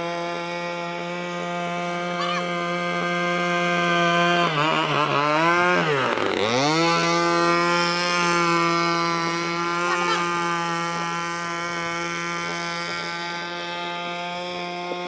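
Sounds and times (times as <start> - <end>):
model boat engine buzzing: 0.0 - 15.0.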